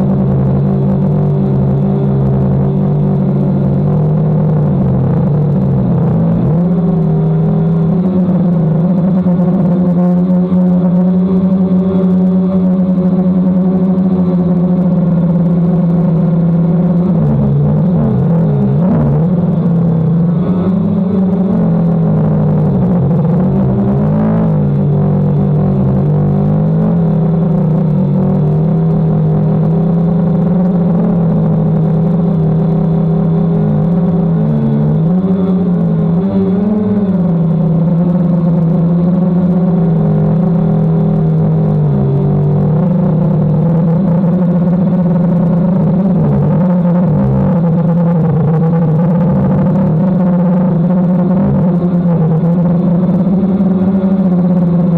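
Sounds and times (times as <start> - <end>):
quadcopter propellers humming: 0.0 - 54.9.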